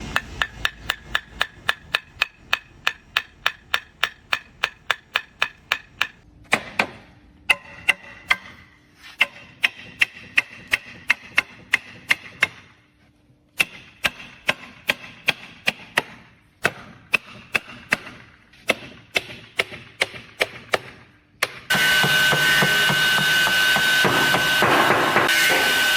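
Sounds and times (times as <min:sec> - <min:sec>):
hammer striking wood chisel: 0:00.0 - 0:08.6, 0:09.2 - 0:12.7, 0:13.6 - 0:25.9.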